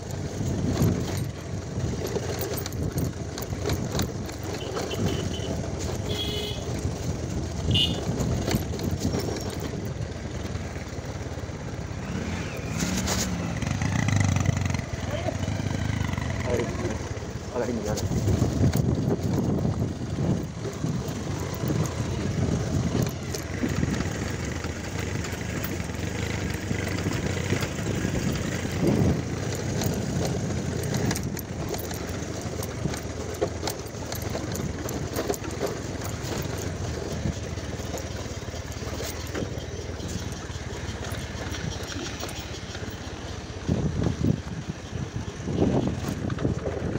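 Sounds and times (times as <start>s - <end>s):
motorcycle engines running: 0.0s - 46.9s
knocks and rattles over stones: 0.1s - 6.1s, 6.7s - 46.9s.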